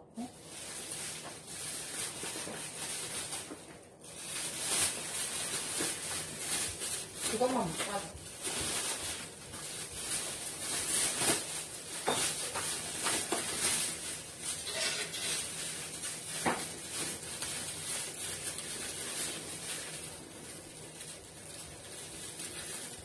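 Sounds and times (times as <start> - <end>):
rustling and handling noise: 0.1 - 23.0.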